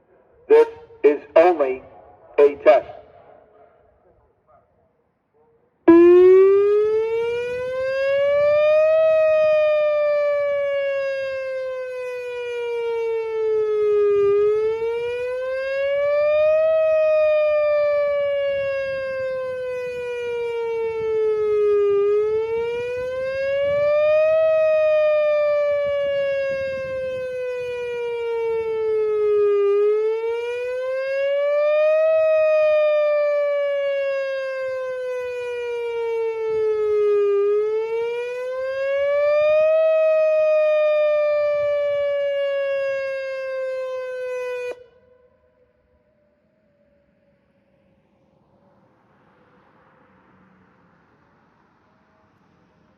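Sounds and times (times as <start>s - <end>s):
warning siren wailing: 0.0s - 4.0s, 5.9s - 46.7s.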